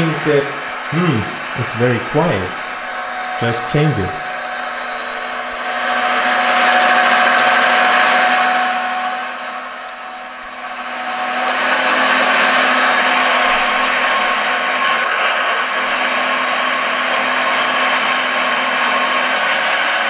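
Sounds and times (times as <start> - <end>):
simulated diesel engine sound: 0.0 - 20.0.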